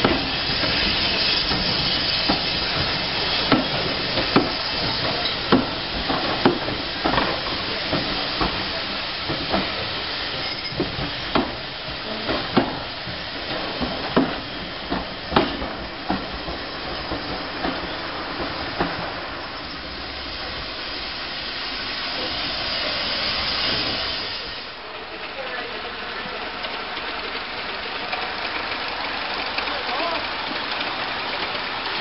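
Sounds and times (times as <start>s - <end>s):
train wheels clicking over rail joints: 0.0s - 32.0s.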